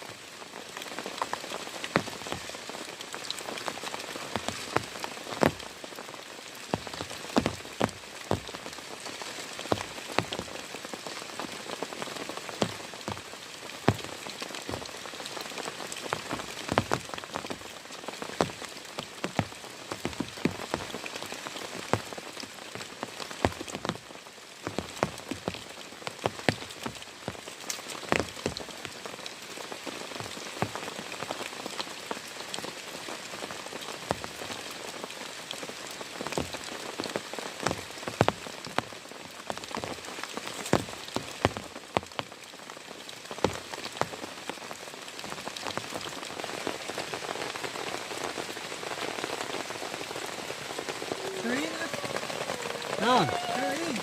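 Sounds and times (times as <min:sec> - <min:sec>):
heavy rain: 0:00.0 - 0:54.0
large raindrops tapping: 0:00.0 - 0:54.0.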